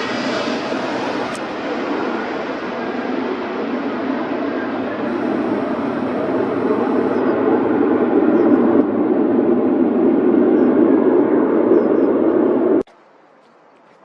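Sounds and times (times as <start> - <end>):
jet engines at takeoff: 0.0 - 12.9.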